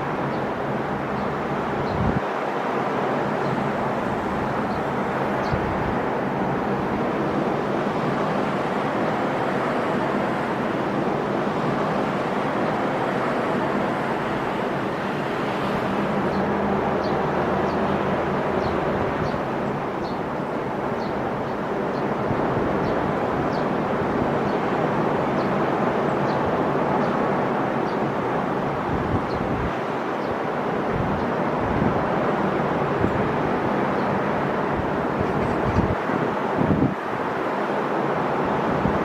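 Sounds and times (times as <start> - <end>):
sea waves breaking on shore: 0.0 - 39.0.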